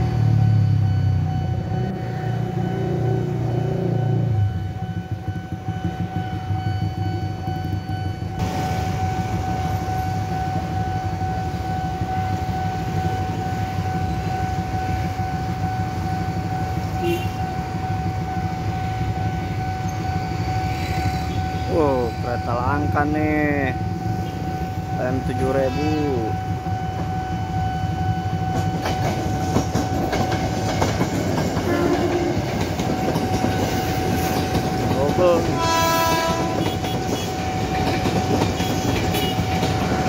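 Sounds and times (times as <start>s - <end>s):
level crossing alarm tone: 0.0s - 40.0s.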